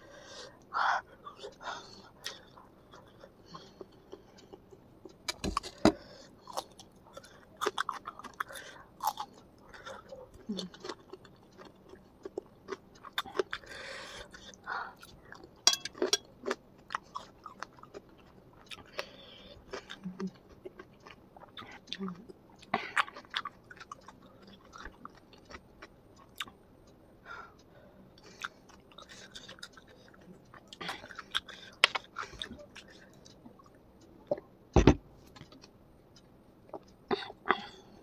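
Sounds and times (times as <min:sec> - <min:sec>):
chewing and wet mouth sounds: 0:01.3 - 0:26.6, 0:28.2 - 0:34.5.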